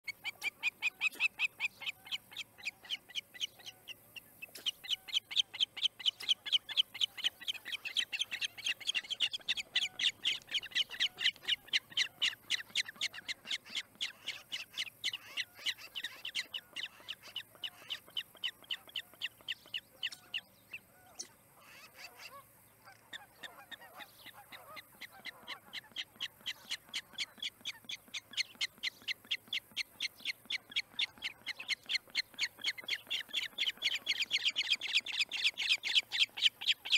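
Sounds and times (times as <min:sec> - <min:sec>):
osprey alarm calls: 0:00.1 - 0:36.9.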